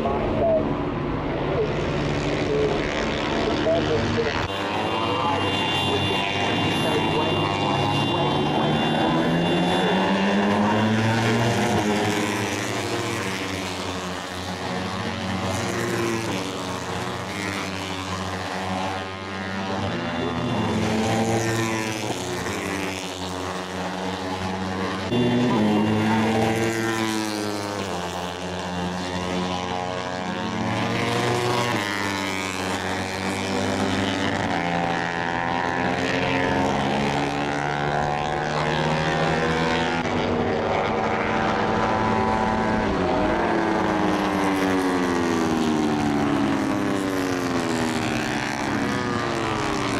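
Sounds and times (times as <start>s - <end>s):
race motorcycles passing at high revs: 0.0s - 49.9s.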